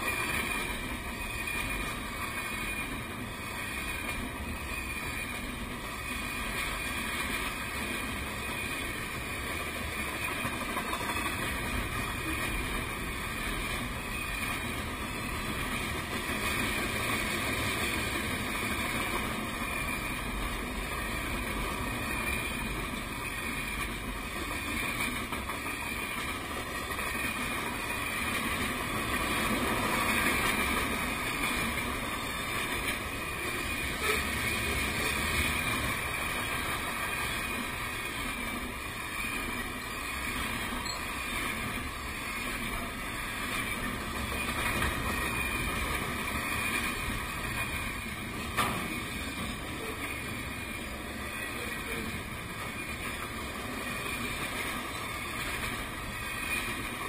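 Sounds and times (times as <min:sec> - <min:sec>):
freight cars rolling on rails: 0:00.0 - 0:57.0.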